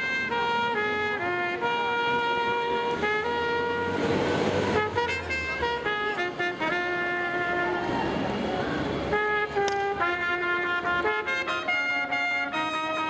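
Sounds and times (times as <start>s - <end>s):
trumpets playing melody: 0.0s - 8.2s, 9.0s - 13.0s
passing vehicle rumble: 0.0s - 13.0s.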